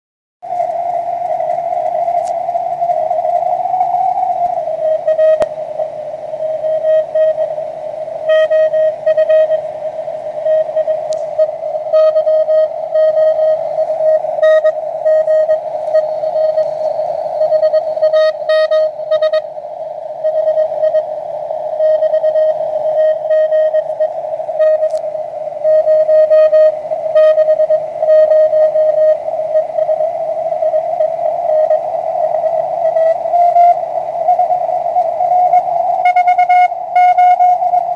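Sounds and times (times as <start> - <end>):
radio band noise hiss: 0.4 - 37.9
morse code tone: 1.2 - 7.6, 8.2 - 25.0, 25.6 - 37.9.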